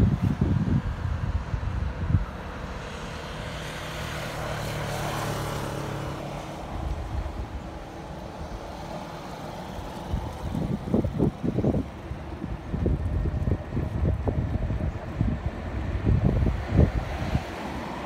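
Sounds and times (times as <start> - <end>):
wind buffeting microphone: 0.0 - 18.0
vehicle passing: 1.4 - 18.0.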